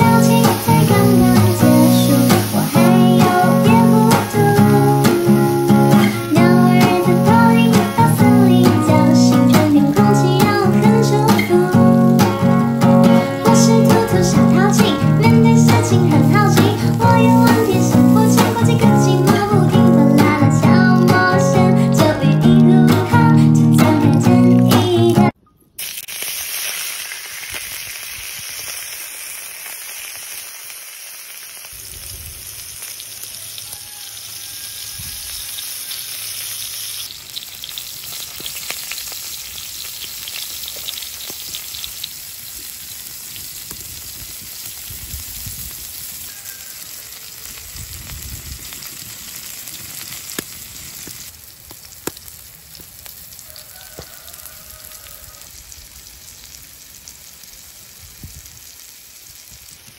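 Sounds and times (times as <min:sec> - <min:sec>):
octopus sizzling in hot oil: 0:00.0 - 0:20.1, 0:25.8 - 0:59.9.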